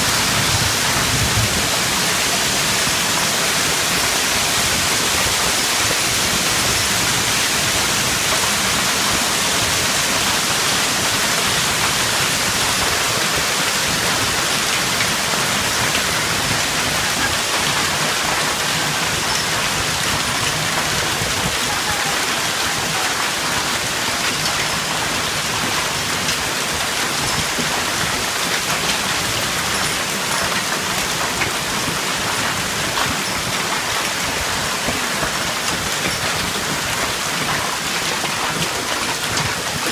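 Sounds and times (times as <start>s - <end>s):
hail and rain falling: 0.0s - 39.9s.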